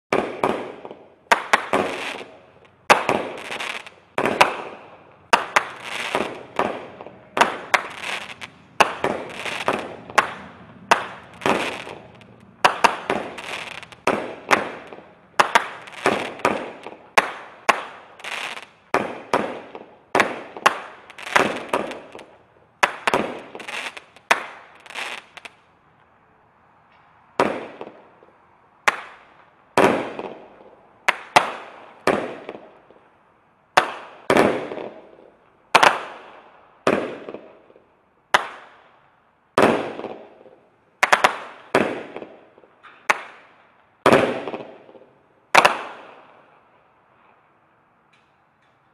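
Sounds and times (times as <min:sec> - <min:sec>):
fireworks bangs: 0:00.1 - 0:25.6, 0:27.3 - 0:32.8, 0:33.8 - 0:37.6, 0:39.6 - 0:46.3.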